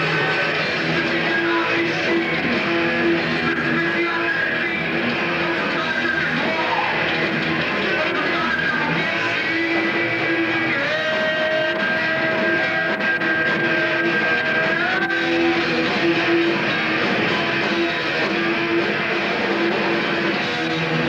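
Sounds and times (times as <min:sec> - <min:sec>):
drums: 0:00.0 - 0:21.0
electric guitar: 0:00.0 - 0:21.0.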